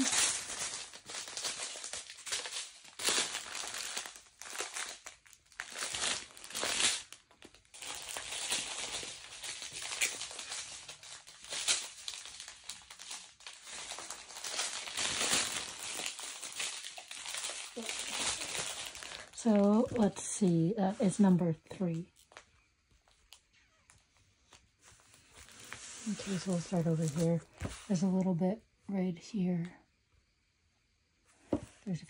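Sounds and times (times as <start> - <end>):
plastic crinkling: 0.0 - 21.3, 21.9 - 28.0.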